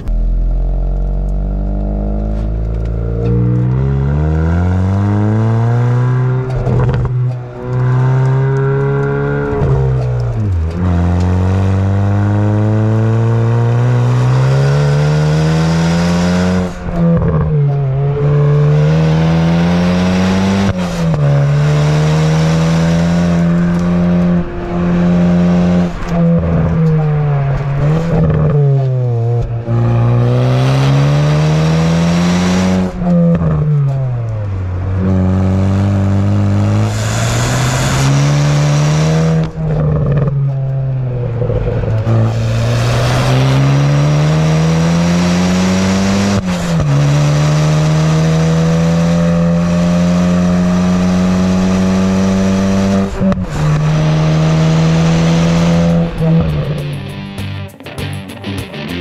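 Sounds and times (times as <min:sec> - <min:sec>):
car engine revving hard: 0:00.0 - 0:56.9.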